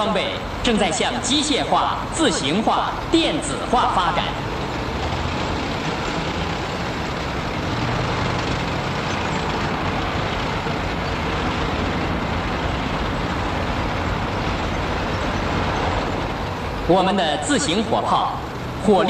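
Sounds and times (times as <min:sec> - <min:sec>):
heavy military vehicles rumbling: 0:00.0 - 0:19.0.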